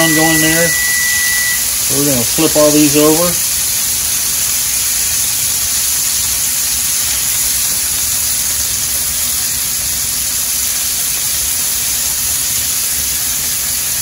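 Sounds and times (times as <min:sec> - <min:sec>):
scallops sizzling in a frying pan: 0:00.1 - 0:14.0.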